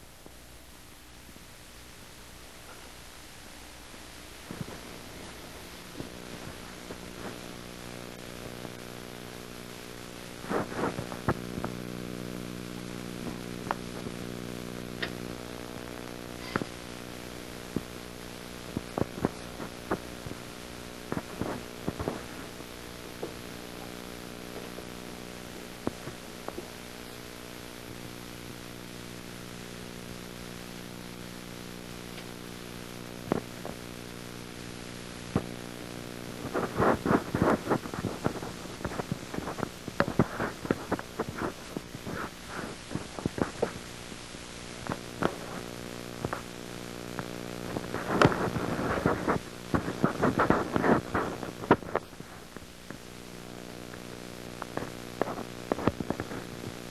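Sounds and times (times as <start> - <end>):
electrical hum: 0.0 - 56.9
light hiss: 0.0 - 56.9
clicks and crackles: 2.6 - 56.9.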